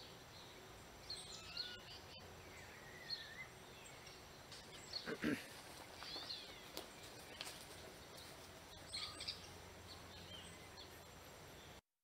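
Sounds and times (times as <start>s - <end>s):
faint outdoor ambience: 0.0s - 11.9s.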